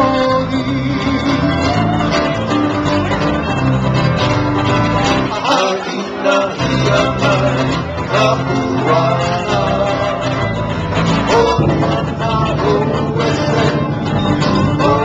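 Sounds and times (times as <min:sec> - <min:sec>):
bass notes: 0:00.0 - 0:05.5, 0:06.4 - 0:15.0
plucked acoustic guitar: 0:00.0 - 0:15.0.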